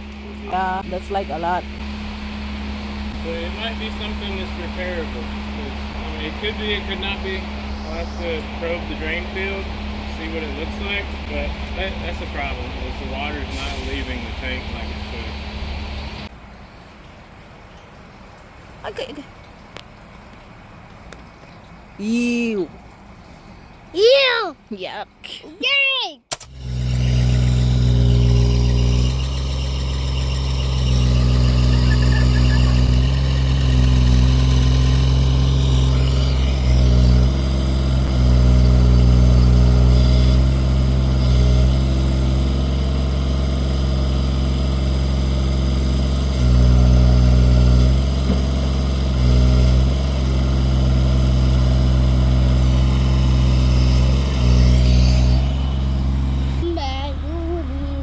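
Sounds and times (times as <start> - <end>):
heavy engine droning: 0.0 - 16.9, 26.4 - 58.0.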